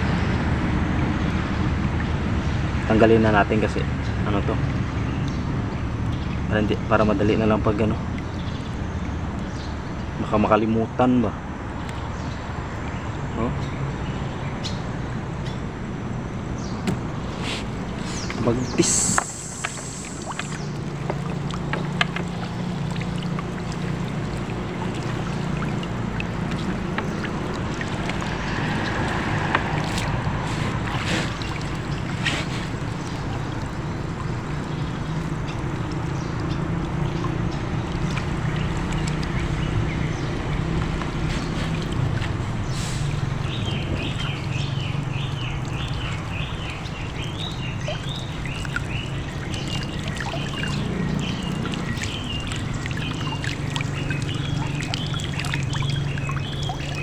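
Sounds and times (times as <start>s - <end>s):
water splashing and dripping: 0.0s - 10.4s, 16.4s - 57.0s
boat engine idling: 0.0s - 57.0s.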